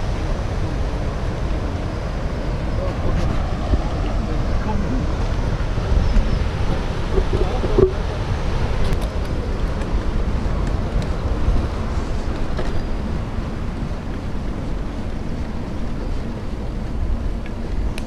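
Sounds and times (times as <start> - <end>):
bike rolling on paved road: 0.0 - 18.0
wind on microphone: 0.0 - 18.0.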